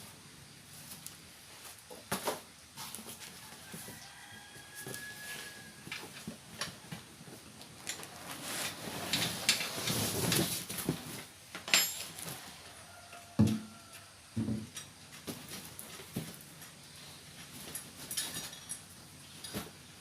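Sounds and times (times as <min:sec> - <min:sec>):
rustling of packing: 0:00.7 - 0:12.7, 0:15.2 - 0:20.0.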